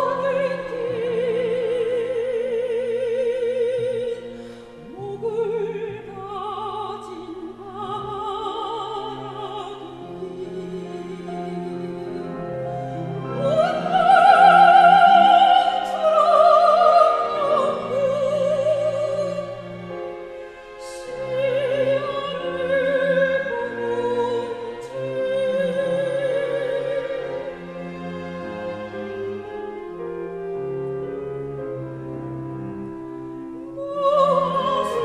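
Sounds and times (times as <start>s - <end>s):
soprano singing operatically: 0.0s - 29.7s, 33.6s - 35.0s
string orchestra: 0.0s - 35.0s.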